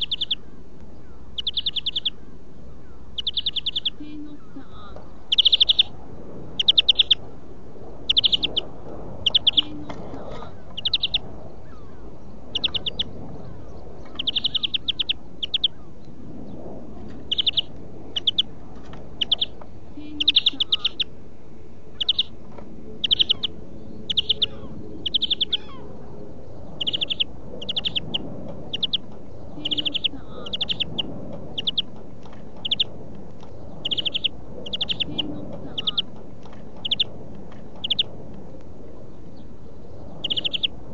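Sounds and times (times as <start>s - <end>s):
bird trilling song: 0.0s - 6.0s, 6.6s - 7.3s, 8.0s - 16.6s, 17.2s - 18.5s, 19.2s - 21.2s, 21.9s - 22.4s, 23.0s - 37.1s, 37.7s - 38.1s, 39.1s - 40.8s
steady background hiss: 0.0s - 40.9s.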